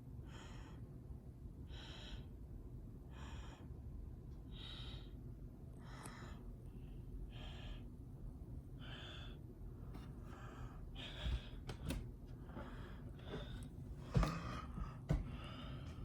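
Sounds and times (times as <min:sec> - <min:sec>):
person breathing quickly: 0:01.6 - 0:08.0, 0:08.7 - 0:16.0.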